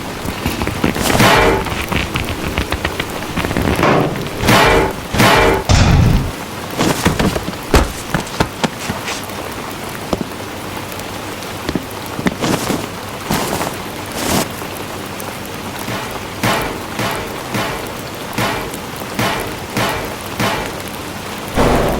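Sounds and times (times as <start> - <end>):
rain-like hiss: 0.0 - 21.6.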